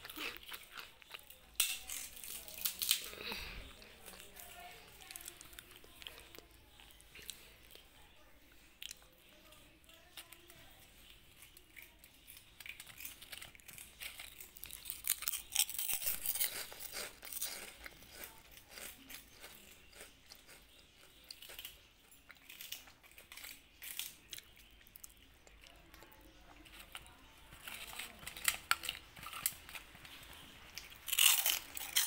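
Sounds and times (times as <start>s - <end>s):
kittens crunching snack: 0.0s - 32.0s.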